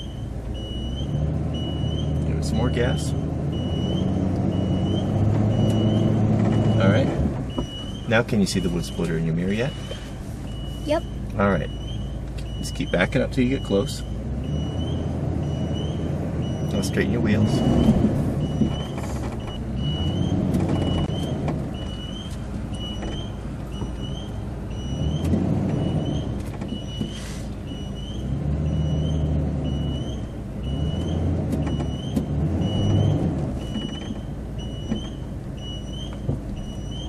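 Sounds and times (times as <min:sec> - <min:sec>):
backup alarm beeping: 0:00.0 - 0:37.0
truck engine revving: 0:00.0 - 0:37.0.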